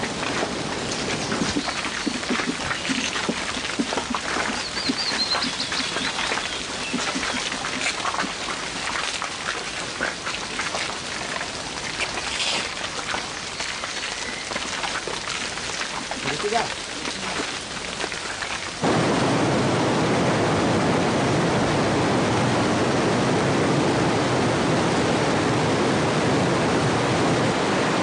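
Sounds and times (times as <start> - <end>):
steady rain patter: 0.0 - 28.0.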